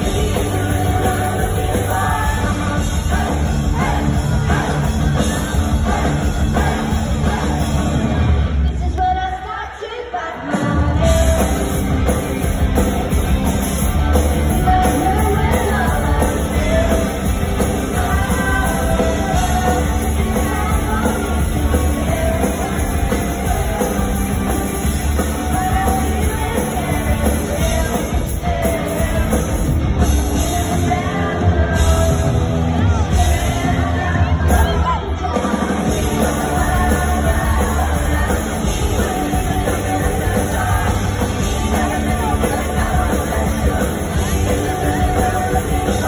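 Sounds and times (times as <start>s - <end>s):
woman singing: 0.0s - 7.8s, 8.7s - 12.2s, 14.1s - 46.0s
rock band playing loudly: 0.0s - 9.4s, 10.3s - 46.0s.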